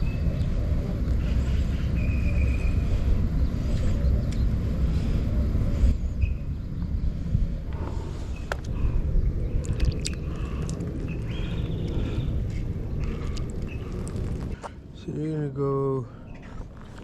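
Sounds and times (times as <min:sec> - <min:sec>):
fluctuating low rumble: 0:00.0 - 0:15.2.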